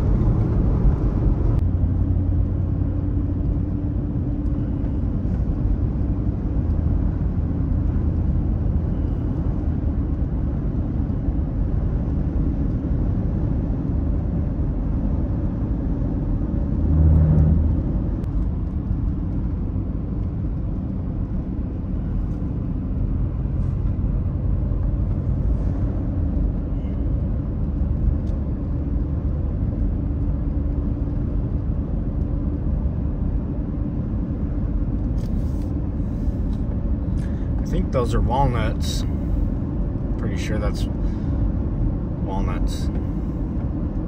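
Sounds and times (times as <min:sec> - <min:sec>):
road and engine noise: 0:00.0 - 0:44.0.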